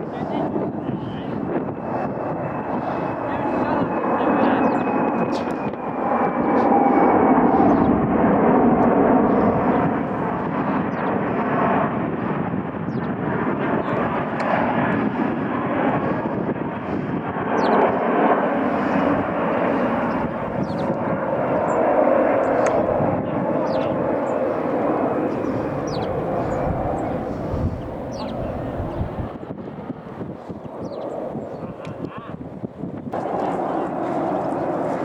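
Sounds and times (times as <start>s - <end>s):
jet aircraft flying by: 0.0s - 35.0s.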